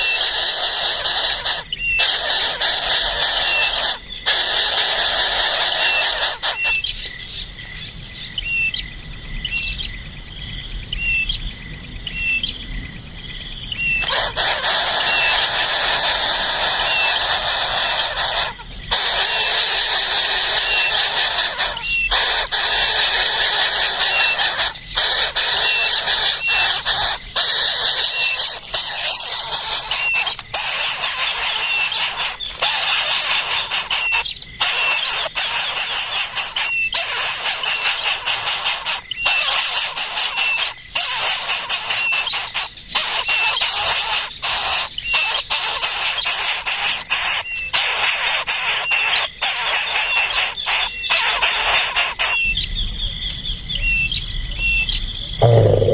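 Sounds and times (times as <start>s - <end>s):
baby birds begging: 0.0s - 10.0s, 13.5s - 55.9s
small chirp: 0.0s - 10.0s, 12.1s - 55.9s.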